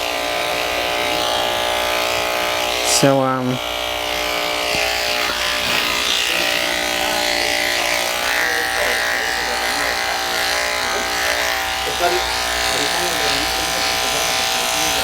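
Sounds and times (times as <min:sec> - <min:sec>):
electric clippers humming: 0:00.0 - 0:15.0.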